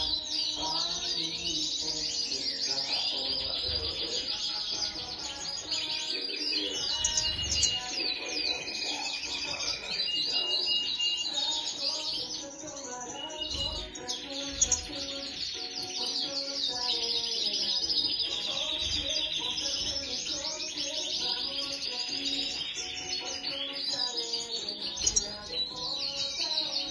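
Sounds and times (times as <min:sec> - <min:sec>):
finches twittering and chirping: 0:00.0 - 0:26.9.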